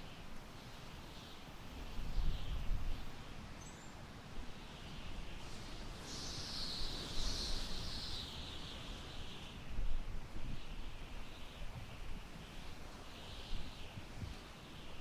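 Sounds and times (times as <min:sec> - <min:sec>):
wind rumble on microphone: 0:01.5 - 0:03.5, 0:04.4 - 0:15.0.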